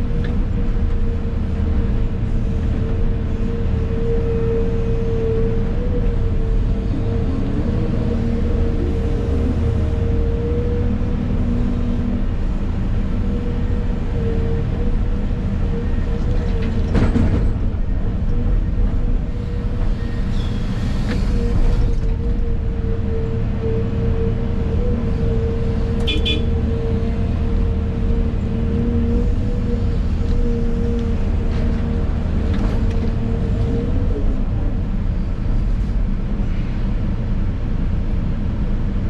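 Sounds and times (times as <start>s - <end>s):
excavator engine and hydraulics: 0.0s - 39.0s.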